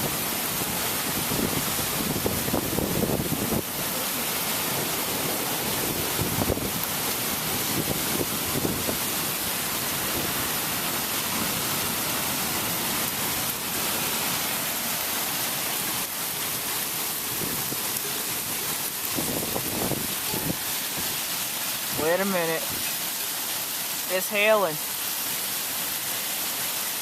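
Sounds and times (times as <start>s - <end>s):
heavy rain hissing: 0.0s - 27.0s
sharp rain taps: 0.0s - 27.0s.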